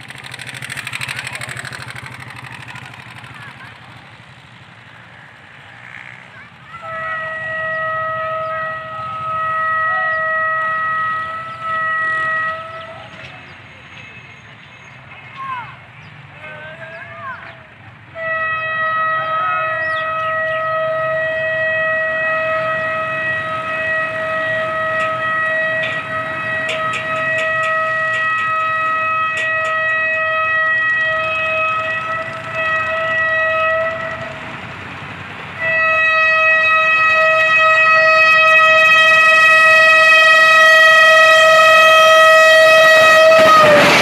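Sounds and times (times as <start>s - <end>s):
locomotive air horn blast: 0.2s - 15.4s, 18.1s - 34.8s, 35.5s - 44.0s.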